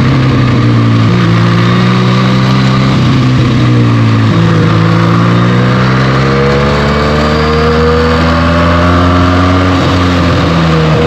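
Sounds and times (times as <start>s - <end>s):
motorcycle engine revving under load: 0.0s - 11.0s
wind and road noise: 0.0s - 11.0s.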